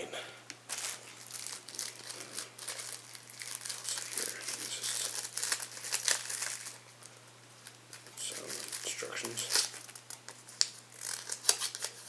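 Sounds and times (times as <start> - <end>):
packaging crinkling and rustling: 0.7 - 12.0.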